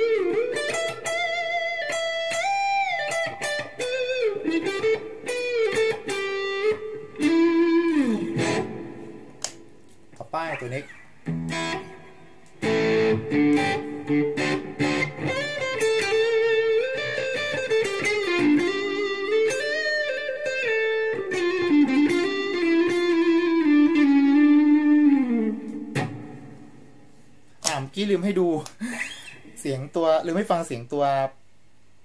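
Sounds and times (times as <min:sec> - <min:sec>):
electric guitar lead line: 0:00.0 - 0:09.8, 0:10.5 - 0:27.2
electric guitar strummed chords: 0:00.0 - 0:09.8, 0:11.2 - 0:27.1.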